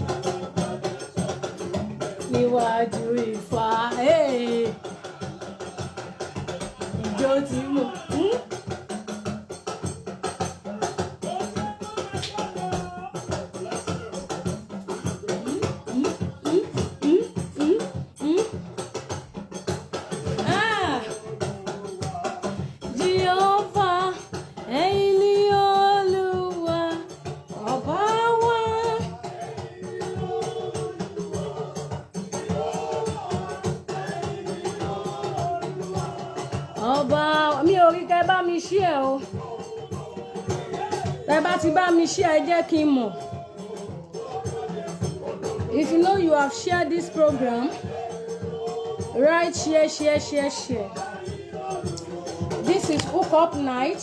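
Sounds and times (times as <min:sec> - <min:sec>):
person singing: 0:00.0 - 0:08.7, 0:10.8 - 0:18.7, 0:20.1 - 0:54.0
drums beating: 0:00.0 - 0:54.0
music with dense percussion: 0:00.0 - 0:54.0.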